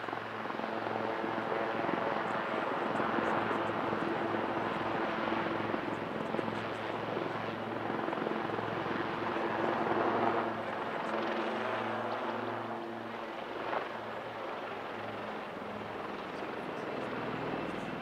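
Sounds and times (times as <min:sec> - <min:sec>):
helicopter rotor and turbine noise: 0:00.0 - 0:18.0.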